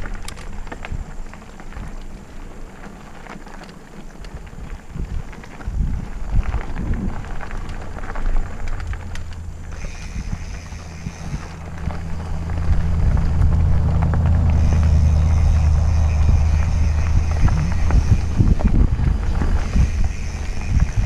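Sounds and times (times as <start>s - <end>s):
bike rattling over bumps: 0.0s - 21.0s
tyres rolling over dirt: 0.0s - 21.0s
wind rumbling on microphone: 0.0s - 21.0s.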